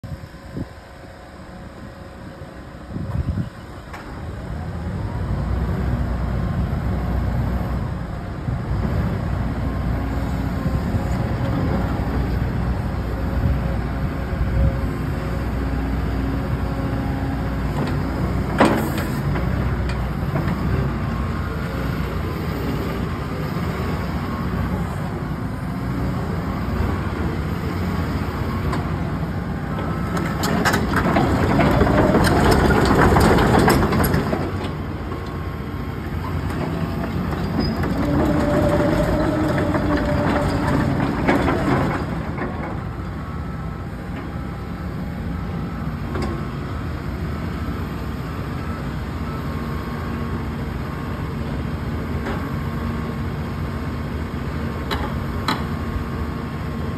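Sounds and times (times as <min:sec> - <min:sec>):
excavator diesel engine: 0:00.0 - 0:56.9.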